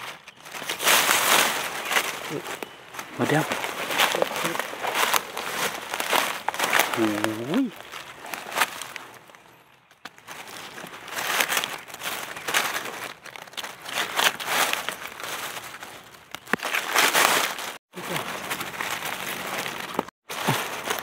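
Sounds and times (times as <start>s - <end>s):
dry leaves rustling and crackling: 0.0s - 21.0s.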